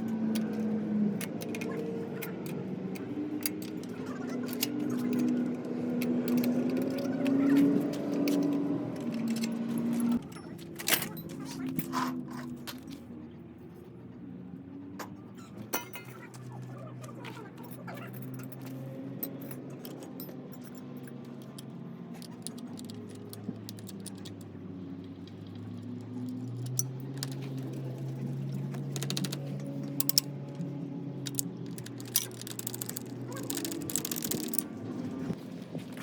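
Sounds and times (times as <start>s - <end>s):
metal tools clinking and rattling: 0.0s - 13.1s, 15.6s - 36.0s.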